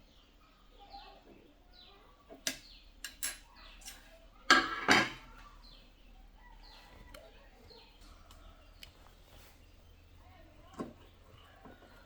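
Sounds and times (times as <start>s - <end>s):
faint bird chirps: 0.0s - 4.5s, 5.2s - 12.0s.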